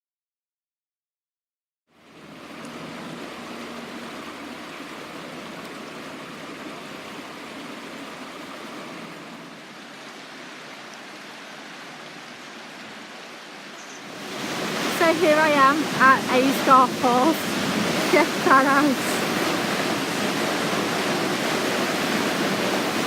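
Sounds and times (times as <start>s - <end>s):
flowing river water rushing: 1.9s - 23.0s.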